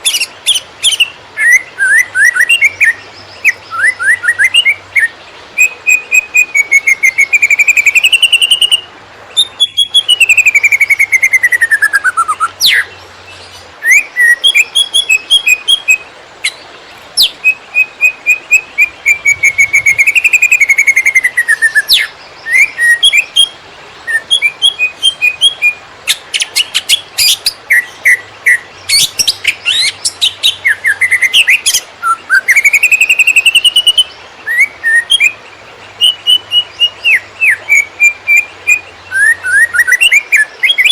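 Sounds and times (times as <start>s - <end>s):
songbird singing fast whistles: 0.0s - 12.9s, 13.8s - 16.6s, 17.2s - 35.4s, 36.0s - 40.9s.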